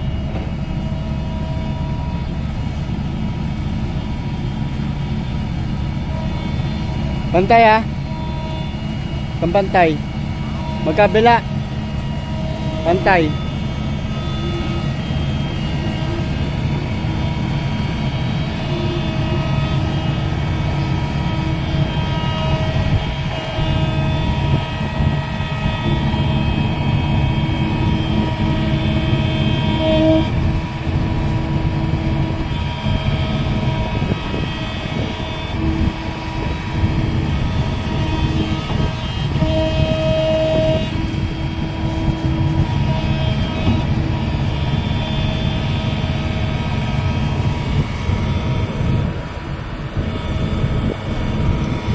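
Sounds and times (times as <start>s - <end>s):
excavator diesel engine running: 0.0s - 51.9s
hydraulic whine: 0.0s - 51.9s.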